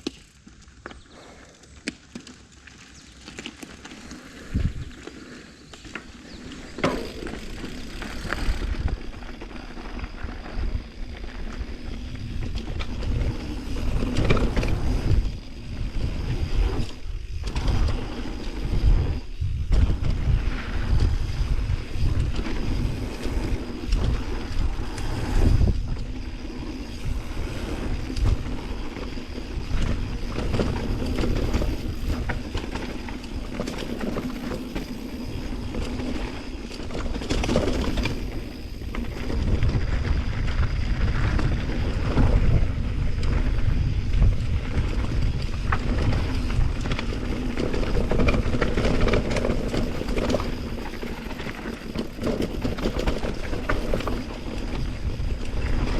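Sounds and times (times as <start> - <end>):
mountain bike rattling on trail: 0.0 - 55.9
wind buffeting microphone: 4.4 - 5.0, 6.3 - 55.9.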